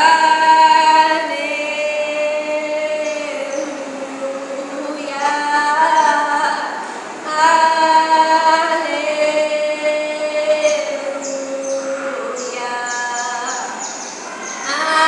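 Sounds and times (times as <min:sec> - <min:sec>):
woman singing long notes: 0:00.0 - 0:13.9, 0:14.6 - 0:15.0.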